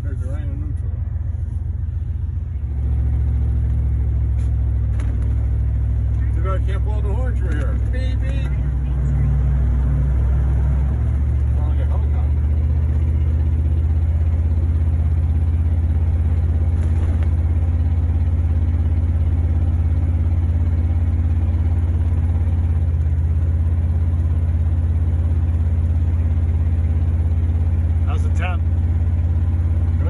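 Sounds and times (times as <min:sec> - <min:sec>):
car engine and road drone: 0:00.0 - 0:30.0.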